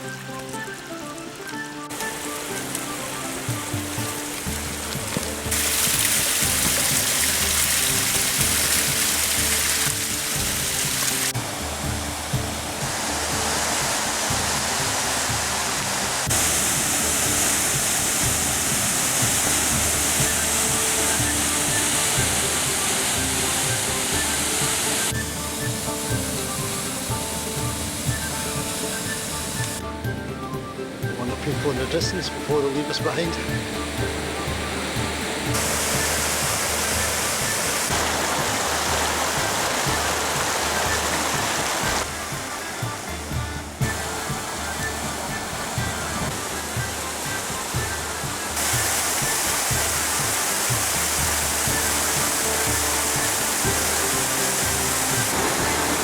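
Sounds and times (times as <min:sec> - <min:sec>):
background music: 0:00.0 - 0:56.0
waterfall rushing: 0:00.0 - 0:56.0.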